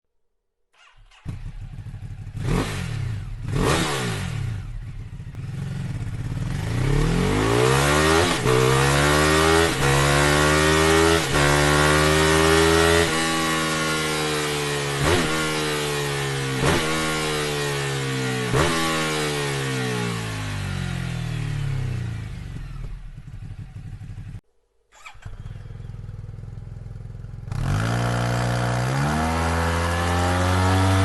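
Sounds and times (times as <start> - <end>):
motorcycle accelerating through gears: 0.8 - 24.4, 25.0 - 31.0.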